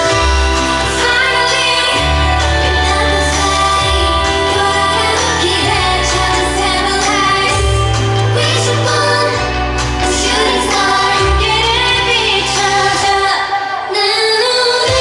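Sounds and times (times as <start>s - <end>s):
female voices singing pop: 0.0s - 15.0s
pop backing track with deep bass: 0.0s - 15.0s.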